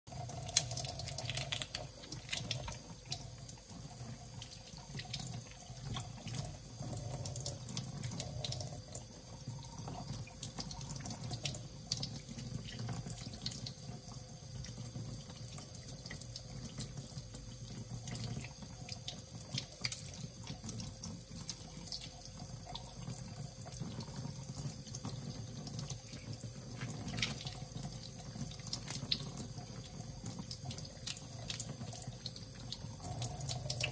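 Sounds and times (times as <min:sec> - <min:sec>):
tap water running into sink: 0:00.1 - 0:33.9.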